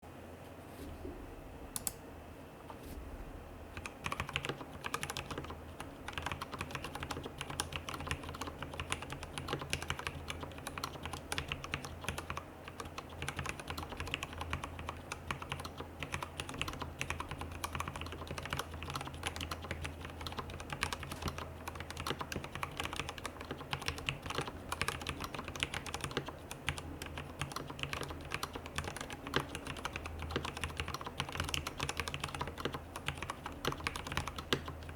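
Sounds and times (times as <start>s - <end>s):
mechanical keyboard typing: 3.7s - 34.9s.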